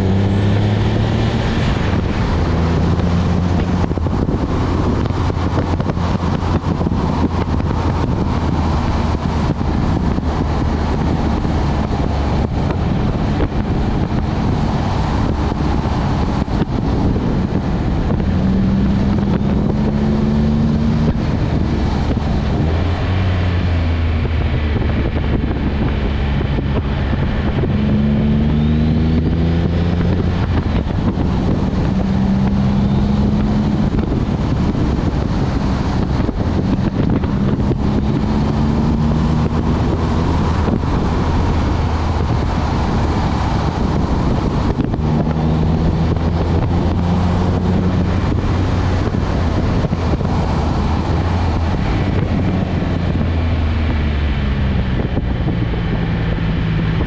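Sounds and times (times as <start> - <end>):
car engine revving: 0.0 - 57.0
wind and road noise: 0.0 - 57.0.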